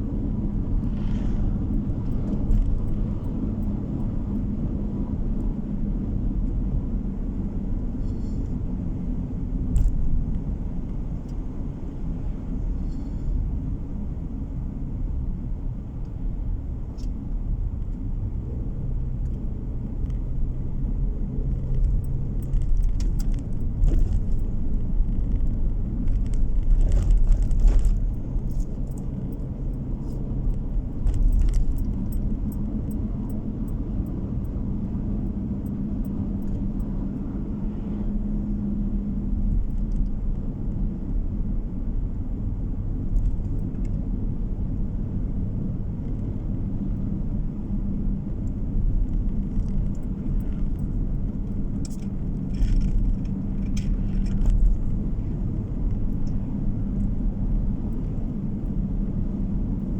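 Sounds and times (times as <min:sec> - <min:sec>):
car road noise: 0:00.0 - 0:59.9.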